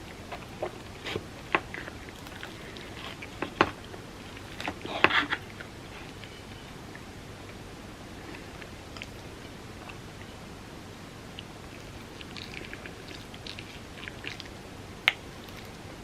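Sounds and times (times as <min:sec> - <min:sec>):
chewing and biting crackles: 0:00.0 - 0:10.4, 0:11.3 - 0:16.0.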